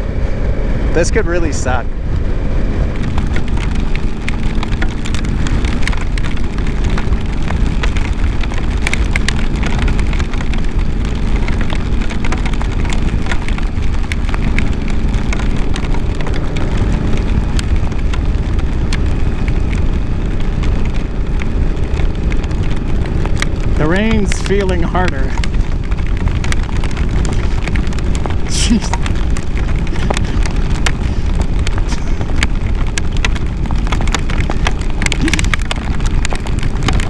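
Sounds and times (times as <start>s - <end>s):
motorcycle engine and wind rumble: 0.0s - 37.0s
raindrops ticking on microphone: 1.0s - 37.0s.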